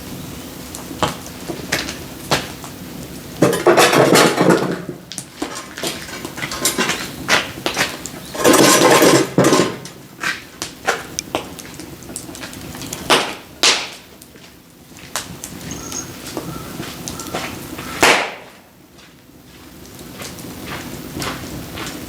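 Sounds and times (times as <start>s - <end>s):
firewood logs clattering: 3.4s - 22.0s.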